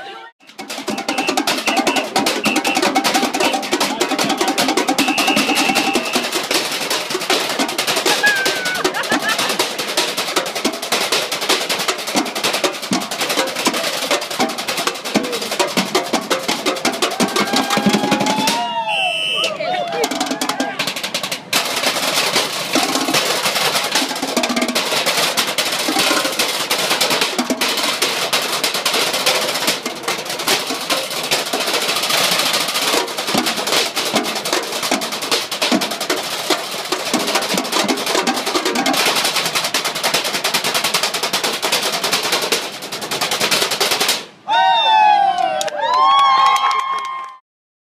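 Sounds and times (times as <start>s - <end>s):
drumsticks beating metal trash cans: 0.4s - 18.6s, 20.4s - 44.3s.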